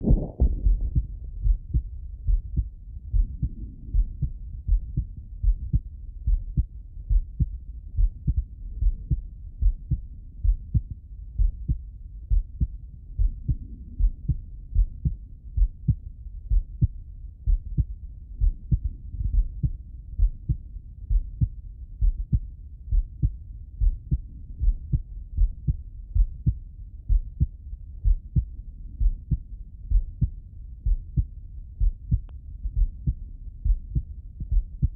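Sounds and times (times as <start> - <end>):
heartbeat thumps: 0.0 - 34.9.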